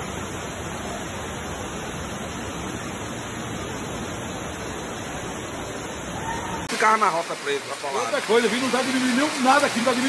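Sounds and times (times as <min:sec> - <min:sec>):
floodwater rushing: 0:00.0 - 0:10.0
heavy rain: 0:00.0 - 0:10.0.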